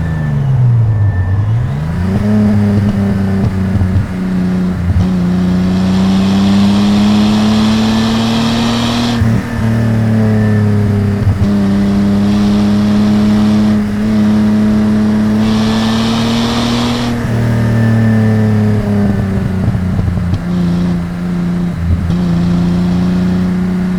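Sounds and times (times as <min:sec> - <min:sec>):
car exhaust under load: 0:00.0 - 0:23.9.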